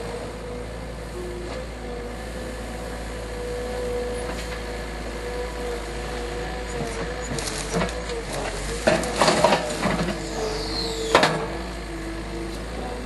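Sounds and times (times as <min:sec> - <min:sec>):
skid steer engine whining: 0:00.0 - 0:13.0.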